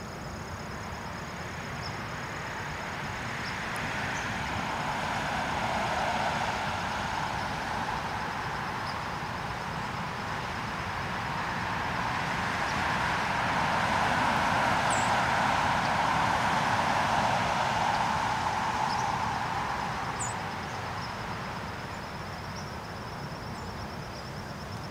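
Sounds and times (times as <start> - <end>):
passing road vehicle: 0.0 - 24.9.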